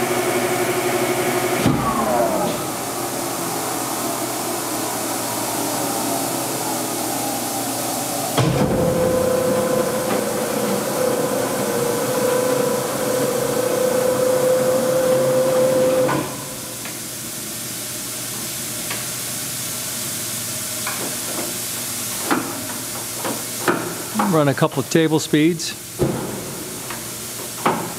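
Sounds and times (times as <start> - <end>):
machinery hiss: 0.6 - 27.9.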